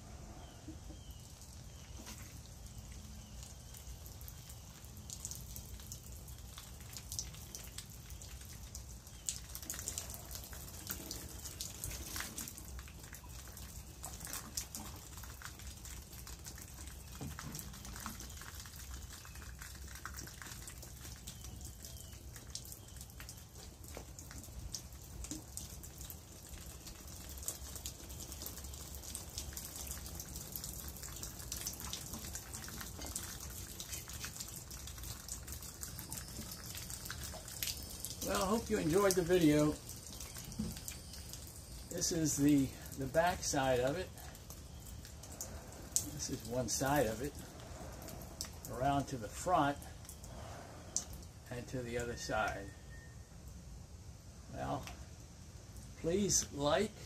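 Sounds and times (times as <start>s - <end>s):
water pattering on leaves and soil: 0.7s - 52.7s.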